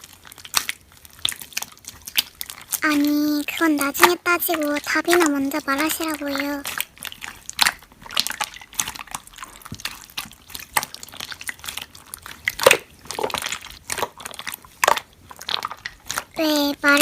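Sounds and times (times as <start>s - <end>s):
slime squished by hand: 0.0s - 17.0s.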